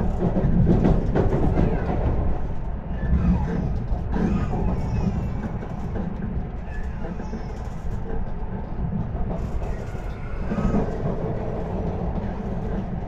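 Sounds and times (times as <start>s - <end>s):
train interior running noise: 0.0s - 13.0s.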